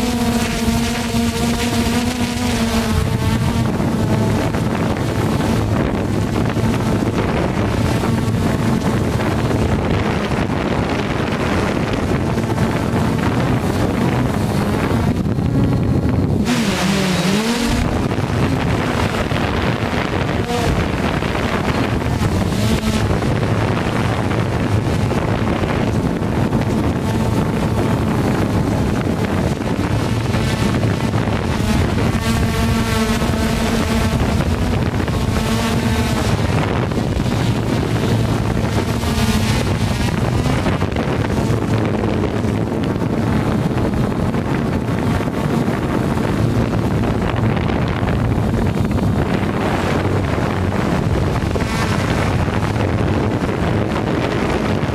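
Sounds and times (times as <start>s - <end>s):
drone propellers humming: 0.0s - 54.9s
wind rushing: 0.0s - 54.9s.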